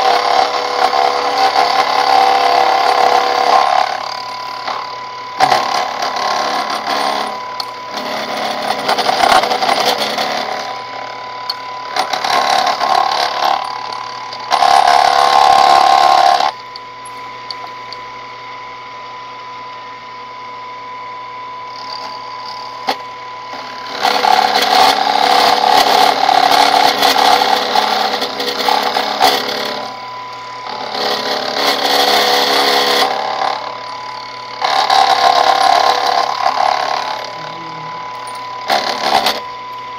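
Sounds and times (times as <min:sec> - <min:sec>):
metal cutting noise: 0:00.0 - 0:19.2, 0:21.1 - 0:39.9
milling machine motor whine: 0:00.0 - 0:39.9.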